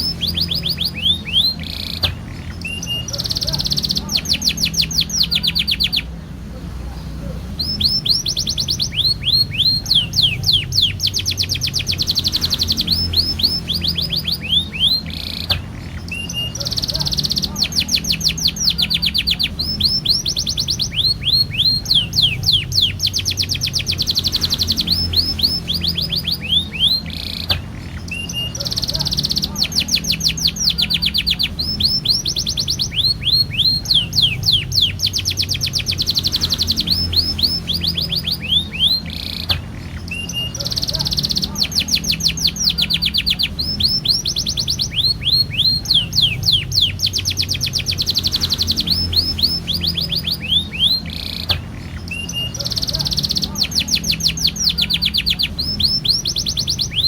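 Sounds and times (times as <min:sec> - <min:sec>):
canary singing trills: 0:00.0 - 0:57.0
low background rumble: 0:00.0 - 0:57.0.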